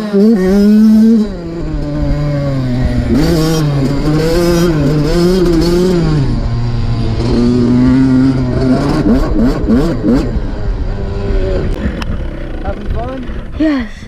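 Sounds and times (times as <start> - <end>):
dirt bike engine revving: 0.0 - 13.9.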